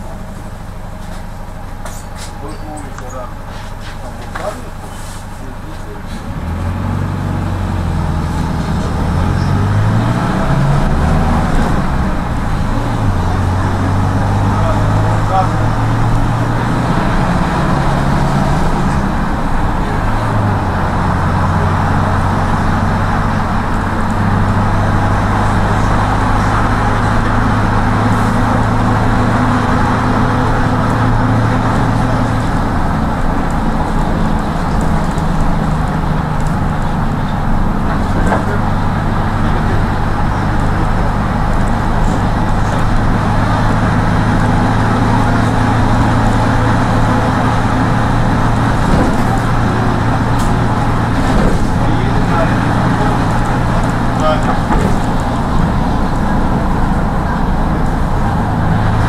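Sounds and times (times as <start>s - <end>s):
minibus engine hum: 0.0s - 59.0s
road and tyre noise: 0.0s - 59.0s.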